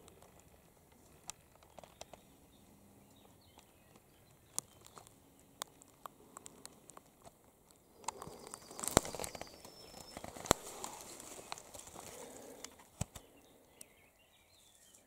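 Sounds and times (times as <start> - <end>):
faint irregular clicks: 0.0 - 15.0.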